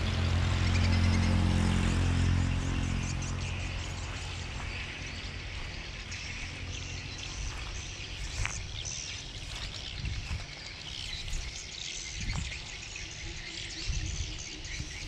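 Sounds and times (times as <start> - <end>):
distant traffic hum: 0.0 - 15.0
passing vehicle rumble: 0.0 - 15.0
small birds chirping: 0.0 - 15.0.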